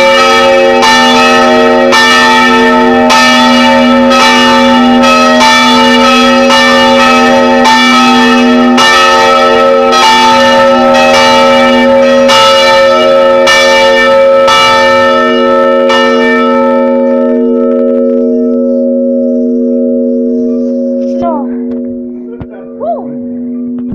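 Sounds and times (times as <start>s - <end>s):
bells humming: 0.0s - 23.9s
church bells ringing: 0.0s - 23.9s.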